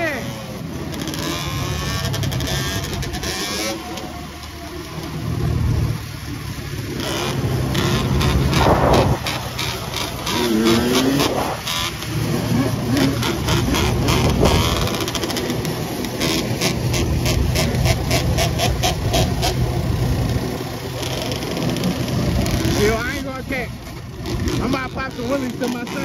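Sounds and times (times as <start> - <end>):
quad engine revving: 0.0 - 26.0.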